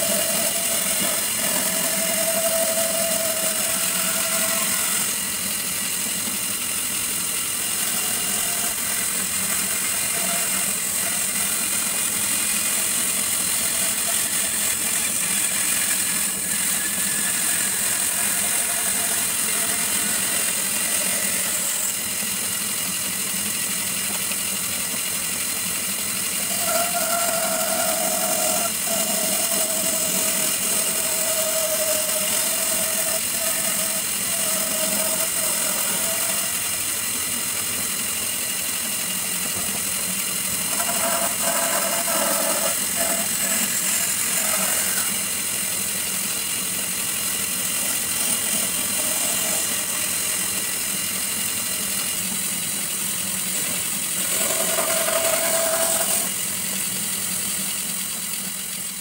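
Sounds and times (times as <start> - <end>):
bandsaw blade cutting wood: 0.0 - 22.6, 26.2 - 57.6
bandsaw running: 0.0 - 59.0.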